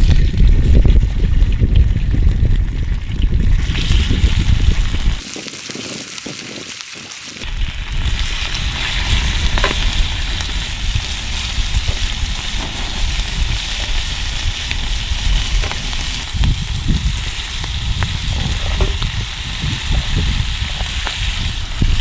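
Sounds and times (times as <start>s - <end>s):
campfire hissing and rumbling: 0.0s - 22.0s
fire crackles and pops: 0.0s - 22.0s.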